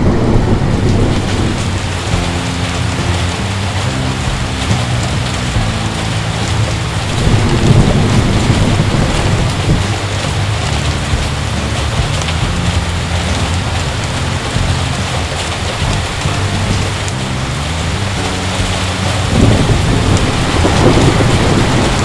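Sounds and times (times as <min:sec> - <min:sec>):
heavy rain falling: 0:00.0 - 0:22.0
thunder rumble: 0:00.0 - 0:22.0.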